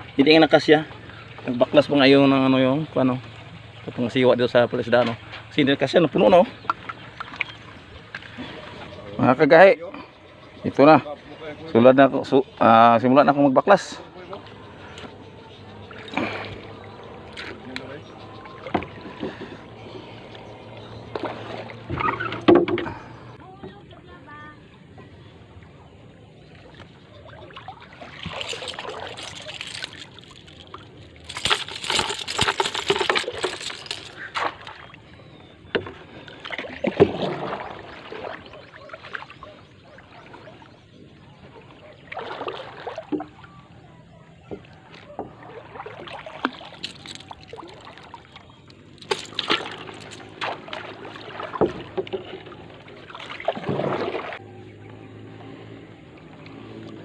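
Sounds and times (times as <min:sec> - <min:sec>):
paddle splashing in water: 0:00.0 - 0:09.4, 0:13.9 - 0:23.9, 0:25.7 - 0:54.8.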